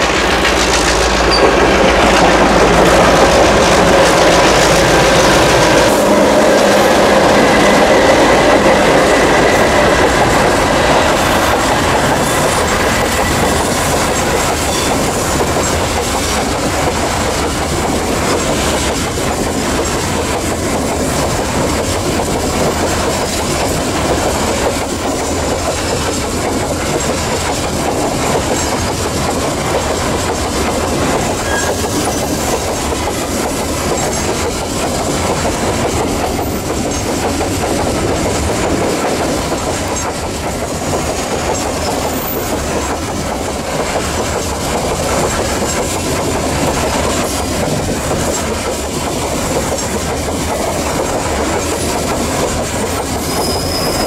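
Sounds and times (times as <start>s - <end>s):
diesel locomotive hum: 0.0s - 54.0s
train wheels clickety-clack: 0.0s - 54.0s.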